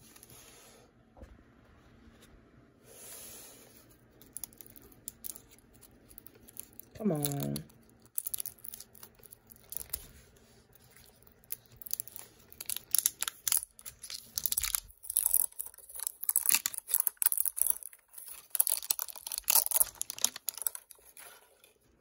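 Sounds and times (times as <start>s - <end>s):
plastic film crinkling and tearing: 4.1s - 22.0s.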